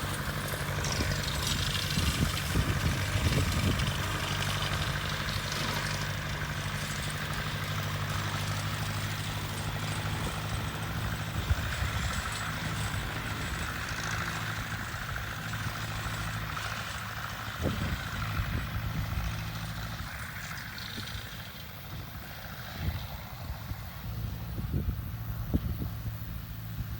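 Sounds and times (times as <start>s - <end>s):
tractor engine humming: 0.0s - 26.9s.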